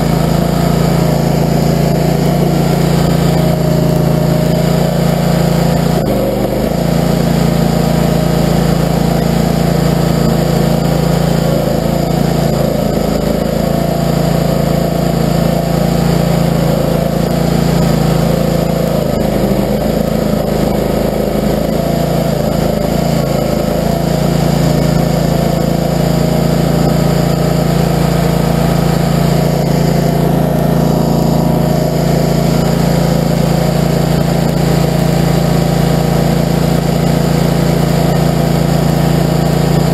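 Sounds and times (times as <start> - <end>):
cutter wheel grinding stump: 0.0 - 39.9
gasoline engine running: 0.0 - 39.9.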